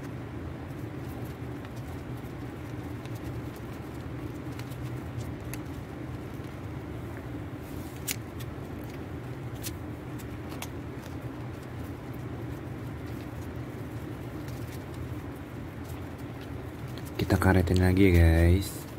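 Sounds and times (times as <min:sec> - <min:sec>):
low background hum: 0:00.0 - 0:18.9
paper crinkling and clicking: 0:00.0 - 0:18.9.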